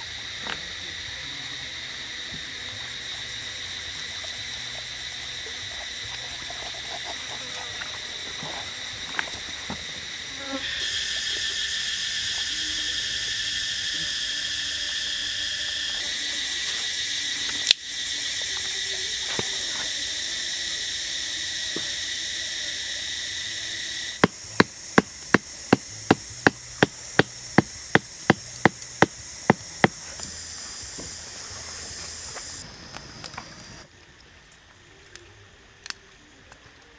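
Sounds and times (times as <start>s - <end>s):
insect chorus buzzing: 0.0s - 34.0s.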